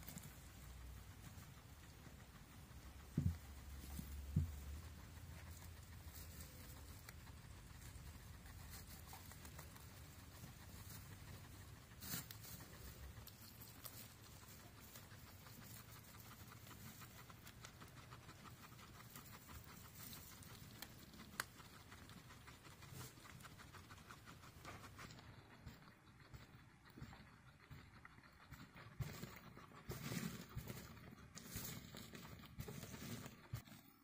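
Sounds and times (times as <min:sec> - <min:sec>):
guinea pigs rustling in hay: 0:00.0 - 0:25.3, 0:29.0 - 0:34.0.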